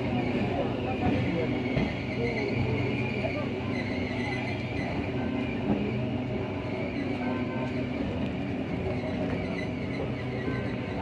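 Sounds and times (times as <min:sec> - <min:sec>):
passenger train running: 0:00.0 - 0:11.0.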